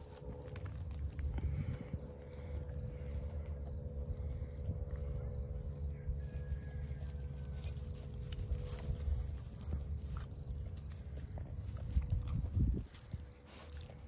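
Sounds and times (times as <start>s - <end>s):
sheep chewing grass: 0.0s - 5.6s, 7.2s - 14.0s
steady low rumble: 0.0s - 14.0s.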